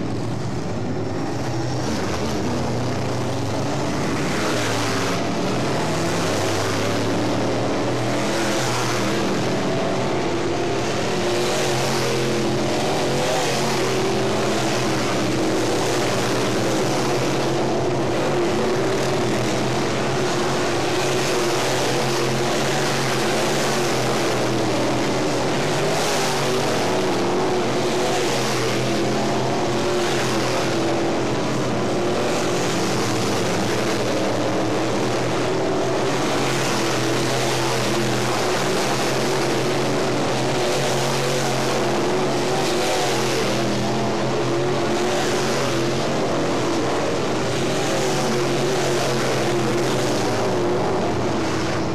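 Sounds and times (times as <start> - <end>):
race car engines droning: 0.0 - 51.9.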